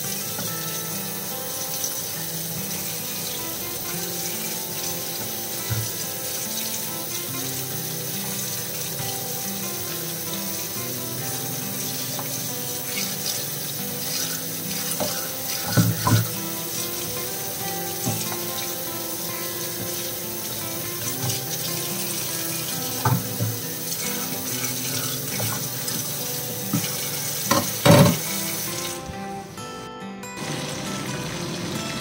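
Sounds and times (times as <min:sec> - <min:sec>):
tap water splashing into metal sink: 0:00.0 - 0:29.2.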